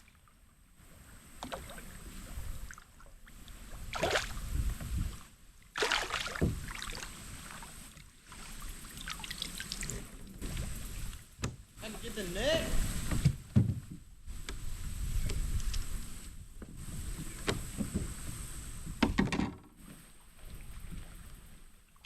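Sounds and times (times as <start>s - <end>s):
water splashing around kayak: 0.0s - 19.2s, 19.8s - 22.0s.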